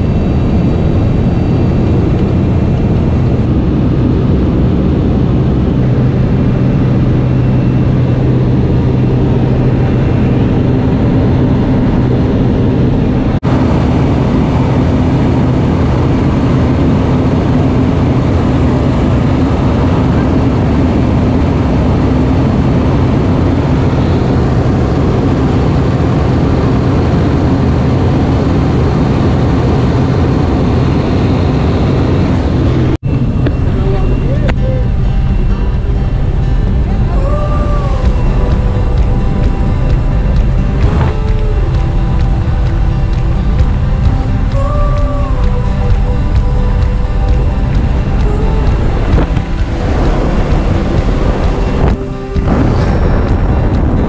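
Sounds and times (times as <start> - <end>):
propeller plane engine droning: 0.0 - 54.0
wind rush: 0.0 - 54.0.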